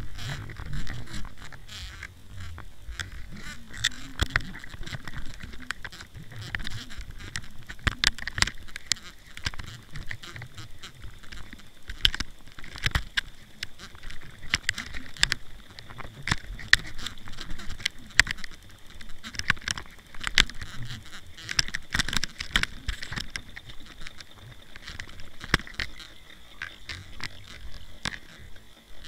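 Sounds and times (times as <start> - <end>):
underwater clicks and knocks: 0.0 - 29.0.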